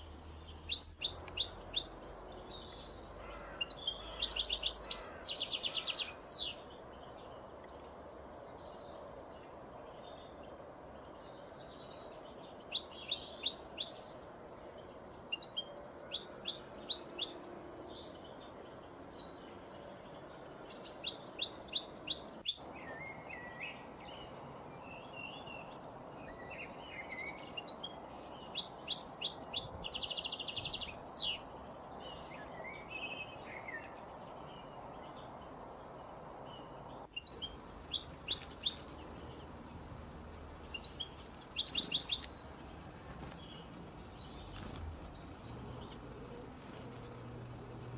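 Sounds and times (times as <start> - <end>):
soft bird chirps: 0.0 - 47.9
steady background hiss: 0.0 - 47.9.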